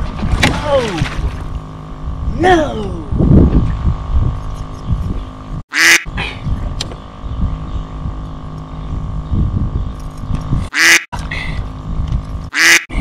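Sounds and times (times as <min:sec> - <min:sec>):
low rumble with faint hum: 0:00.0 - 0:13.0.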